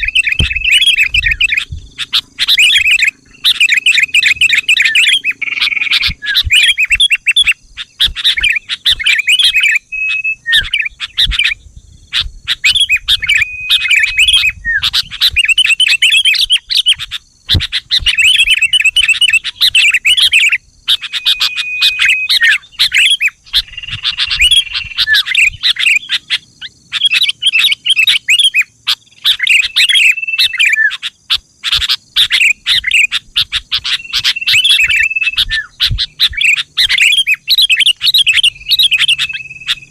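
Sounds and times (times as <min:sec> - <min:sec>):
bird chattering and whistling: 0:00.0 - 0:39.9.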